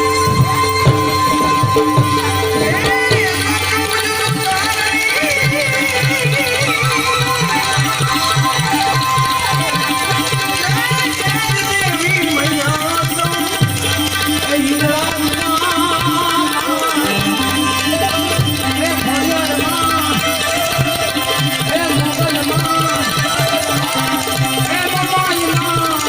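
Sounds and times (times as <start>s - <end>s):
ornamented melodic line: 0.0s - 26.0s
tabla drumming: 0.0s - 26.0s.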